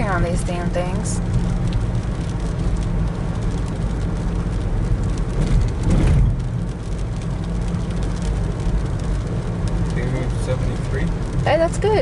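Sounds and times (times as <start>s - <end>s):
car engine inside cabin: 0.0s - 12.0s
road noise: 0.0s - 12.0s.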